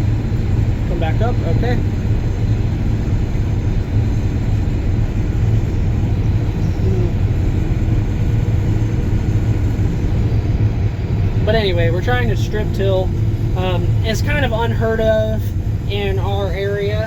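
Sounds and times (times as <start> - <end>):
combine harvester drone: 0.0 - 17.0.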